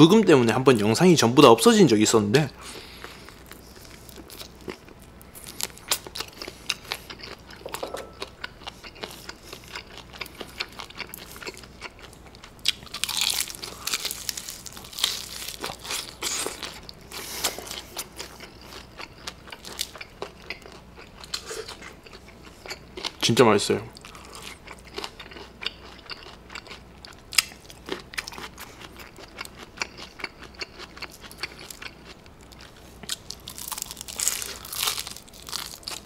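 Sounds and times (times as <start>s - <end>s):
crunching fried chicken: 2.6s - 23.3s, 23.9s - 36.0s.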